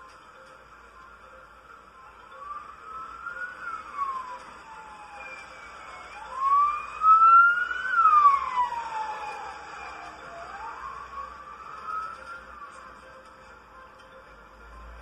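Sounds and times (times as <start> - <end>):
vehicle siren wailing: 0.0 - 13.4.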